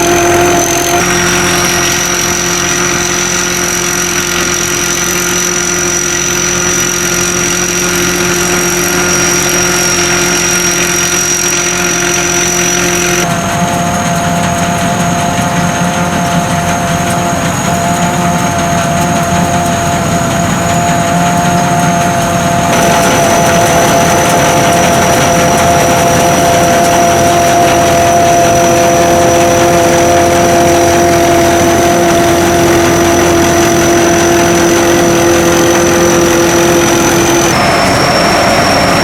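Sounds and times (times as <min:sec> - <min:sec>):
combine harvester engine droning: 0:00.0 - 0:39.0.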